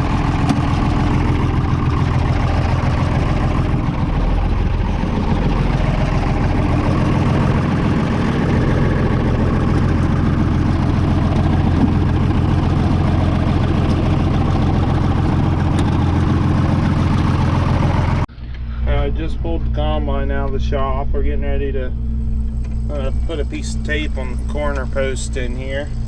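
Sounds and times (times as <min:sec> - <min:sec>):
large farm engine running: 0:00.0 - 0:26.0.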